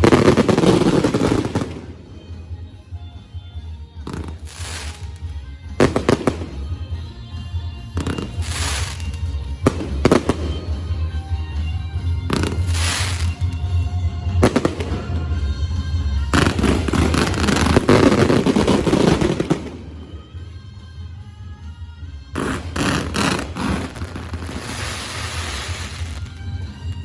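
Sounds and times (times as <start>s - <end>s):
fireworks bangs and crackling: 0.0s - 3.1s, 3.9s - 21.2s, 22.3s - 27.0s.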